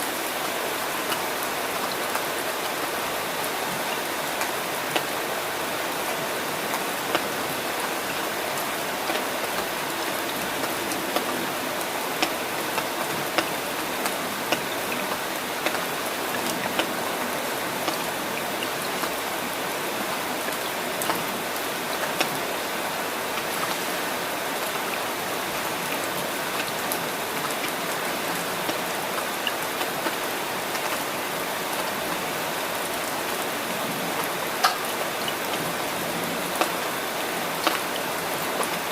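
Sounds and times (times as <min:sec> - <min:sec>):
steady rain falling: 0:00.0 - 0:38.9
raindrops ticking close by: 0:00.1 - 0:38.9.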